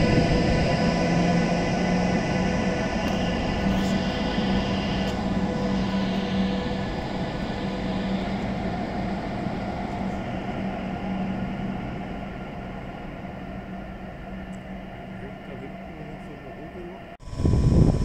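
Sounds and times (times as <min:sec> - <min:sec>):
train electric hum: 0:00.0 - 0:18.0
train rumbling: 0:00.0 - 0:18.0.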